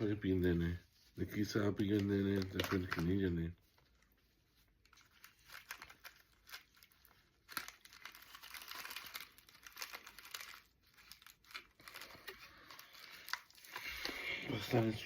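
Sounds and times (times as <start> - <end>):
packaging crinkling: 1.7 - 15.0.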